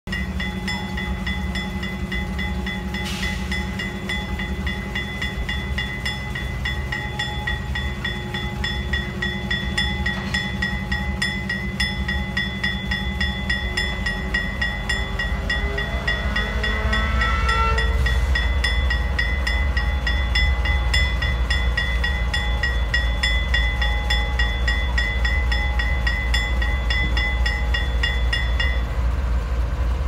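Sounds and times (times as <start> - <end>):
diesel locomotives rumbling: 0.1 - 30.0
locomotive bell ringing: 0.1 - 30.0.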